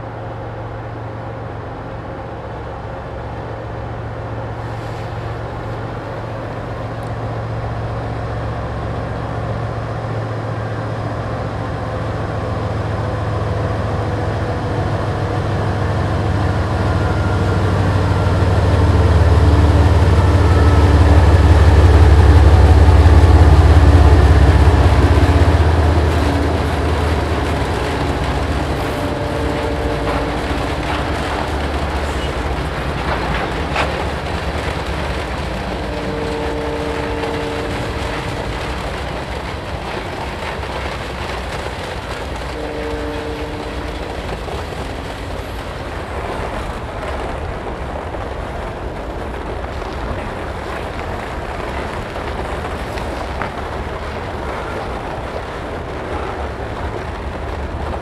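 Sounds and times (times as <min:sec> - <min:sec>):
locomotive engine drone: 0:00.0 - 0:58.0
rail cars rolling by: 0:00.0 - 0:58.0.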